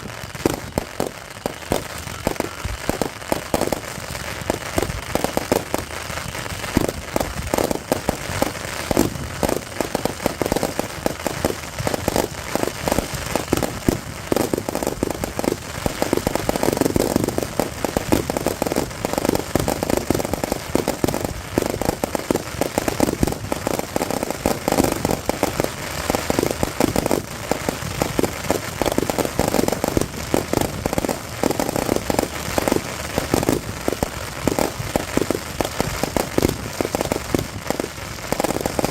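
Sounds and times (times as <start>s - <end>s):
fireworks crackling and popping: 0.0s - 38.9s.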